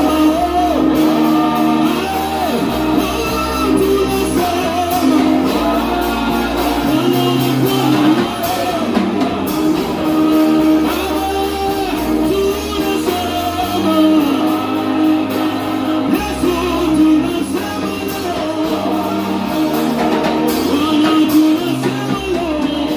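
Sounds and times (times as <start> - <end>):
worship band with guitar and bass: 0.0 - 22.9.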